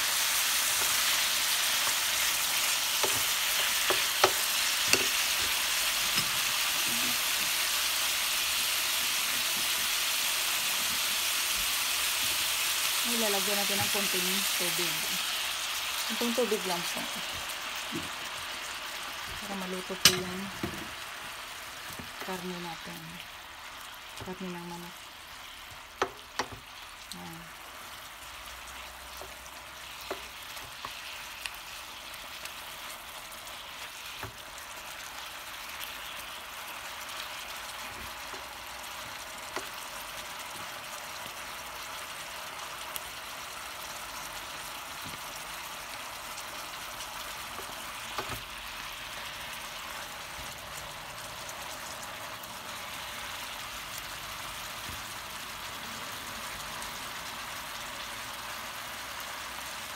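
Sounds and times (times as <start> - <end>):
sauce sizzling and bubbling: 0.0 - 59.9.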